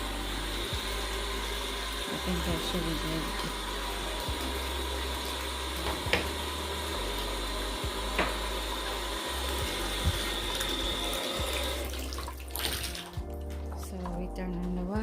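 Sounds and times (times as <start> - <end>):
water running from bathtub tap: 0.0 - 13.9.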